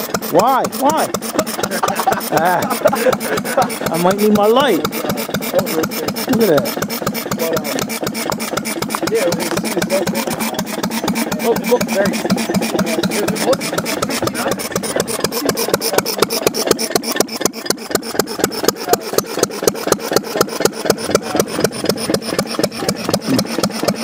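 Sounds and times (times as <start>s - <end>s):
small gas engines running: 0.0s - 24.0s.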